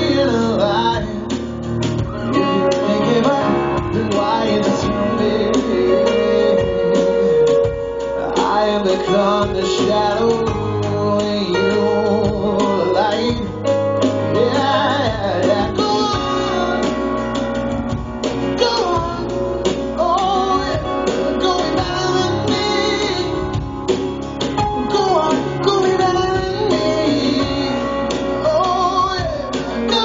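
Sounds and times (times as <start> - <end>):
bass guitar: 0.0 - 30.0
man singing: 0.0 - 30.0.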